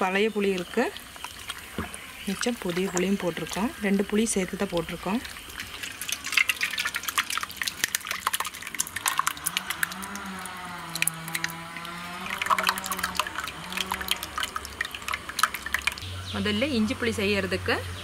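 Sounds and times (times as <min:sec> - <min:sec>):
liquid splashing and dripping: 0:00.0 - 0:16.0
low steady hum: 0:00.0 - 0:18.0.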